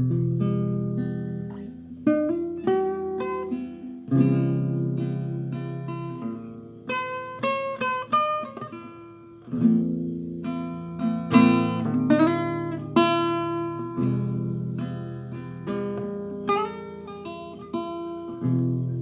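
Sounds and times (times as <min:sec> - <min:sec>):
plucked string instrument: 0:00.0 - 0:19.0.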